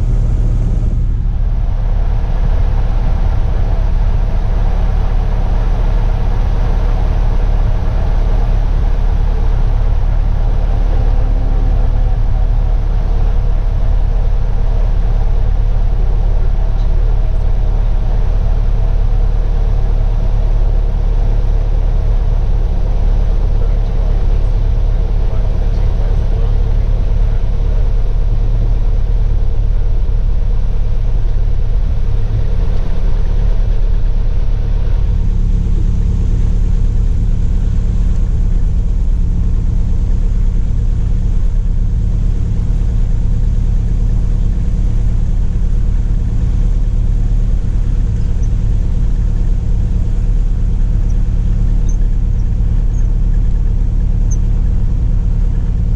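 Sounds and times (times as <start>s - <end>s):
light aircraft engine drone: 0.0s - 55.9s.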